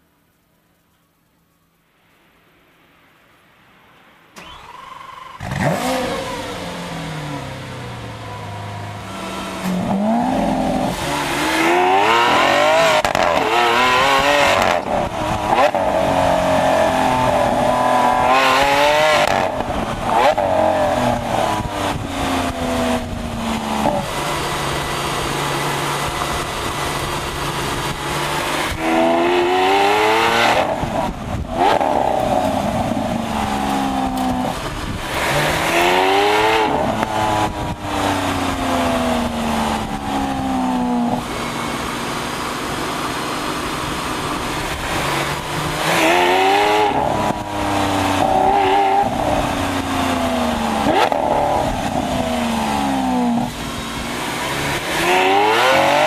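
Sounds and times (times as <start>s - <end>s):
sports car engine revving through gears: 5.4s - 56.0s.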